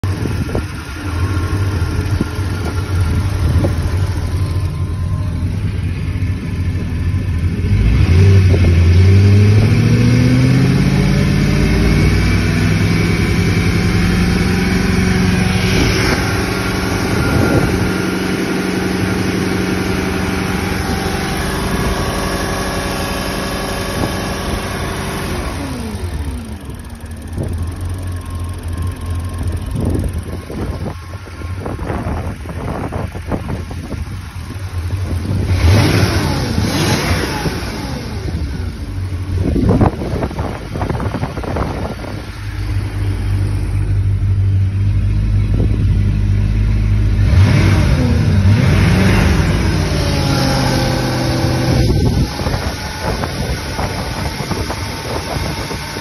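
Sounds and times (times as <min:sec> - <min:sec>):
boat engine idling and revving: 0:00.0 - 0:56.0.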